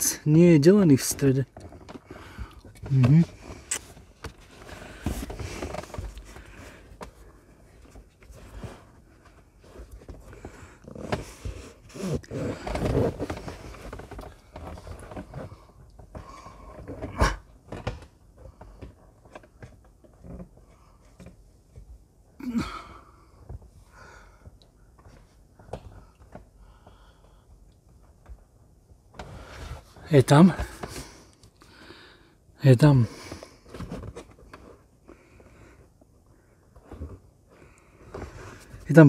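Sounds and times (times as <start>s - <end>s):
carpet and plastic trim rustling: 0.0s - 22.1s, 23.3s - 32.2s, 32.8s - 39.0s.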